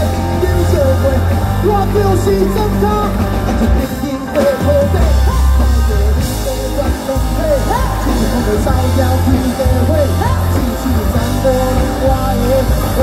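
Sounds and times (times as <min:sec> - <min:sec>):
drums: 0:00.0 - 0:13.0
electric guitar: 0:00.0 - 0:13.0
heavy bass line: 0:00.0 - 0:13.0
male singer: 0:00.0 - 0:13.0.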